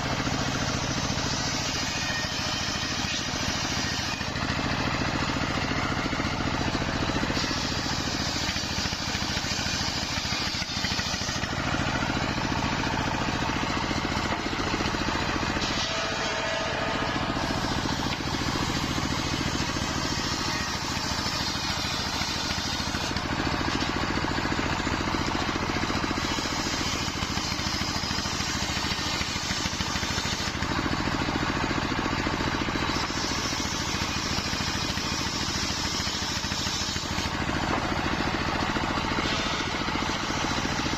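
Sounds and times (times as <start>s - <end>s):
circular saw motor drone: 0.0s - 40.9s
saw blade cutting wood: 0.0s - 40.9s.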